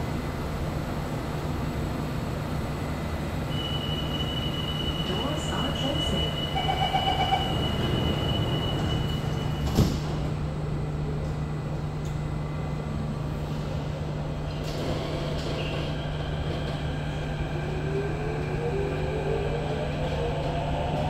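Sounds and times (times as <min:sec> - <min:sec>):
train electrical hum: 0:00.0 - 0:21.0.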